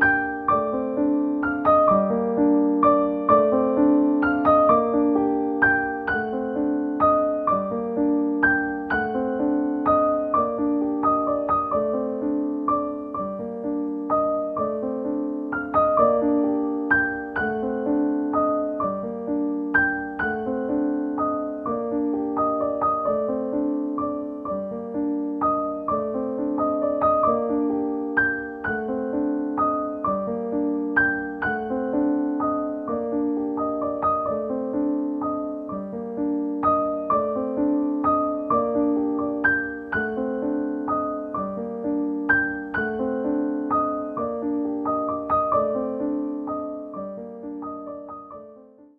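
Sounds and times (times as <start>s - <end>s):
gentle piano music: 0.0s - 48.9s.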